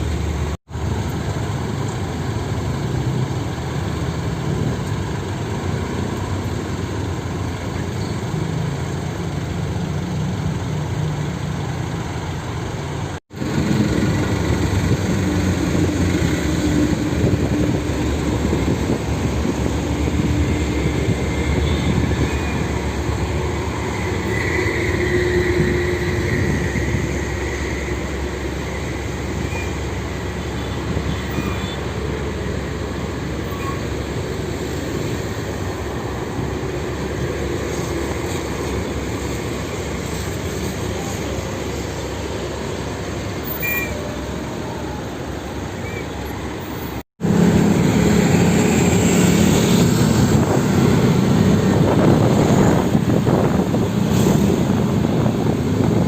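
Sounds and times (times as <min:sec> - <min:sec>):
engine hum: 0:00.0 - 0:56.0
traffic and truck noise: 0:00.0 - 0:56.0.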